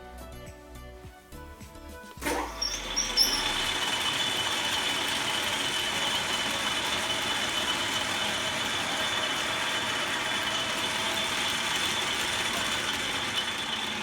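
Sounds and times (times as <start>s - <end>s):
metal lathe running with whine: 2.2s - 14.0s.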